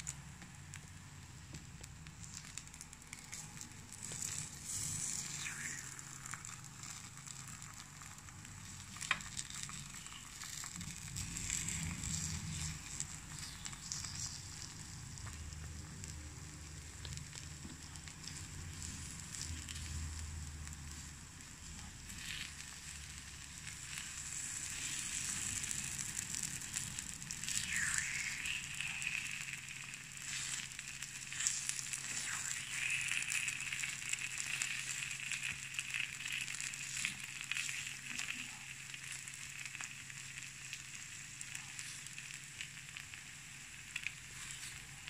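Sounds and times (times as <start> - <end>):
batter sizzling and crackling: 0.0 - 45.0.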